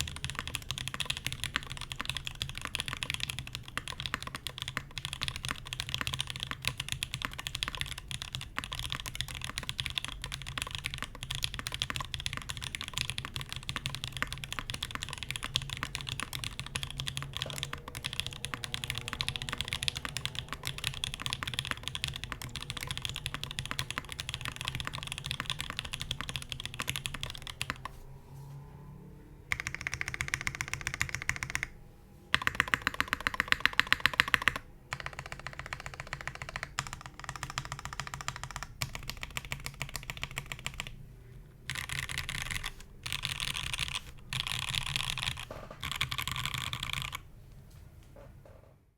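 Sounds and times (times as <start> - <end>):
mechanical keyboard typing: 0.0 - 28.0, 29.5 - 41.0, 41.6 - 47.3.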